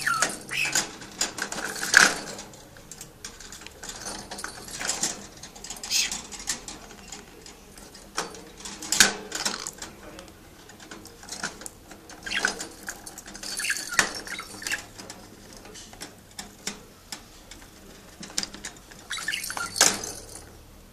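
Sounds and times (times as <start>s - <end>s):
fingers rattling wire cage bars: 0.0s - 20.8s.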